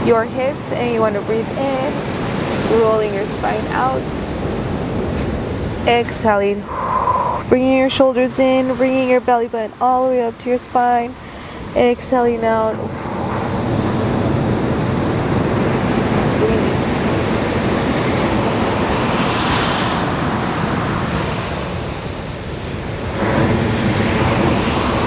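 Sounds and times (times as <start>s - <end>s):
ocean surf breaking on a beach: 0.0s - 25.0s.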